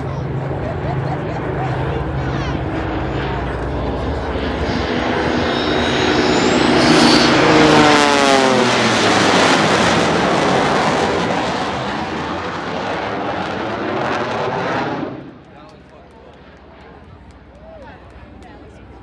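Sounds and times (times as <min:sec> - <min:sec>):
propeller planes flying past: 0:00.0 - 0:19.0.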